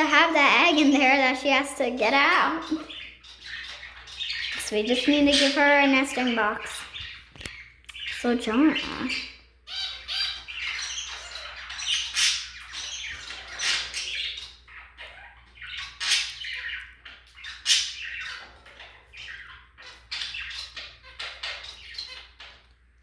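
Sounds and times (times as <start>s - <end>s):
budgerigars chattering: 0.0s - 22.7s
loud bird squawks: 2.5s - 22.6s.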